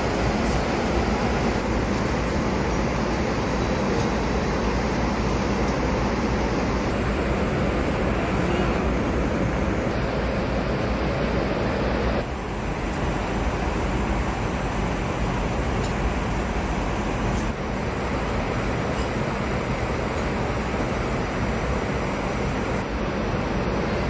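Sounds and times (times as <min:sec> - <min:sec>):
airliner cabin engine drone: 0:00.0 - 0:24.0.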